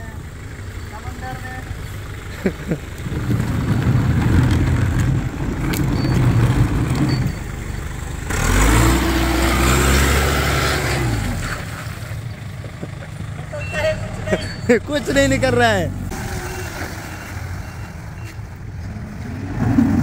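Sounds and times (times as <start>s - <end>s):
forklift engine revving: 0.2s - 20.0s.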